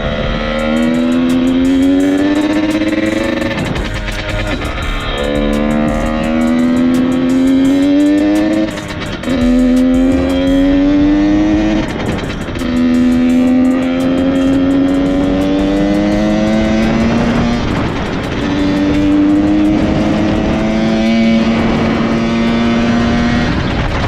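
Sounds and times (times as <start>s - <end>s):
dirt bike engine accelerating: 0.0s - 24.0s.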